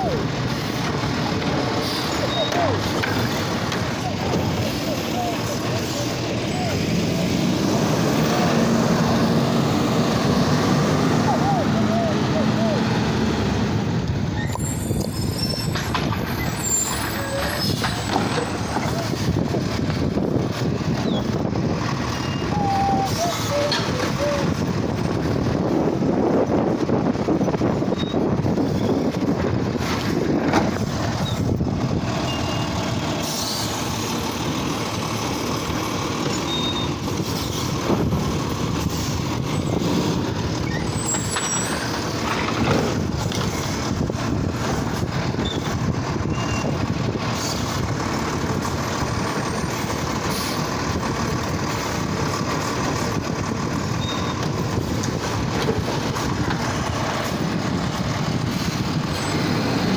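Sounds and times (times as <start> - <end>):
garbage truck engine running: 0.0 - 59.9.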